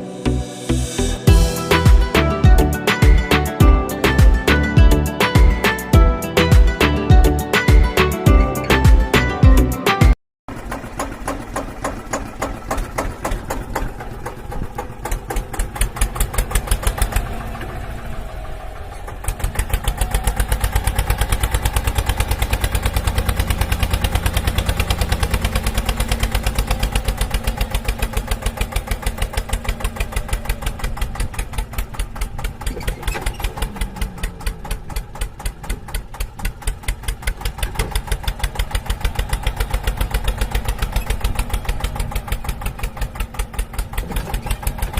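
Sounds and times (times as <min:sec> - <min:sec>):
tractor engine chugging: 0:00.3 - 0:09.7, 0:10.5 - 0:44.9.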